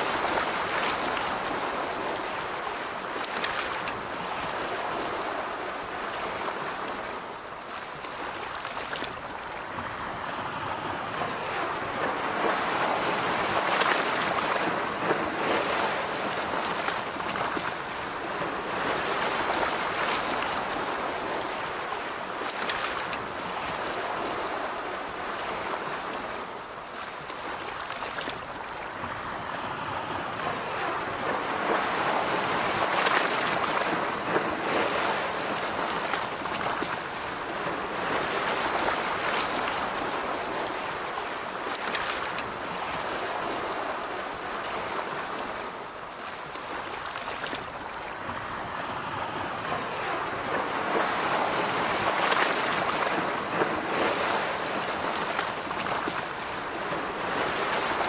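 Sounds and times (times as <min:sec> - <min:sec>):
waves breaking on a beach: 0:00.0 - 0:58.0.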